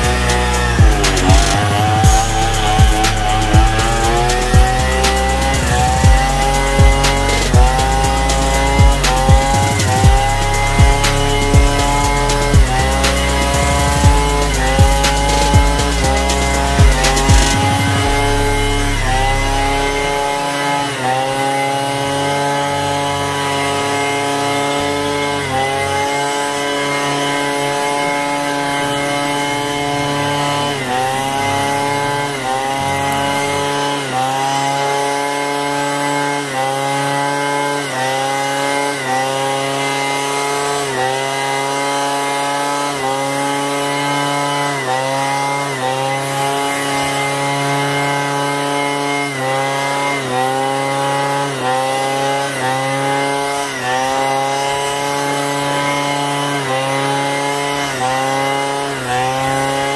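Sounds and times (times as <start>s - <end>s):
small gasoline engine cutting grass: 0.0s - 59.9s.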